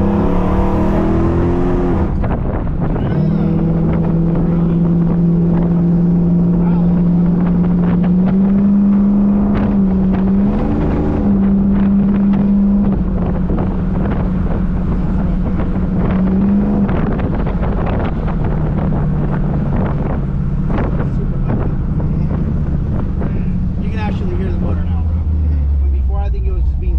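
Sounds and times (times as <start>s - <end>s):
car engine running: 0.0s - 26.9s
wind buffeting microphone: 0.0s - 26.9s.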